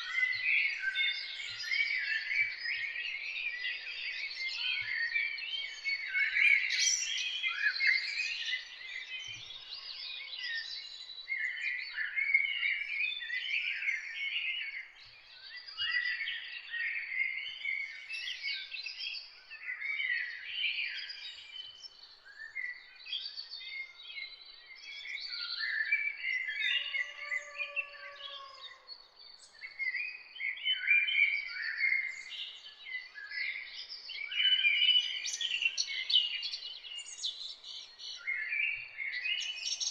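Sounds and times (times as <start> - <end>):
songbirds chorus of trills: 0.0 - 39.9.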